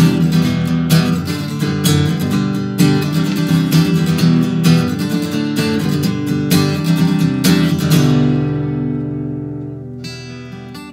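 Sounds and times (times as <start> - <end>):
acoustic guitar strumming: 0.0 - 10.9.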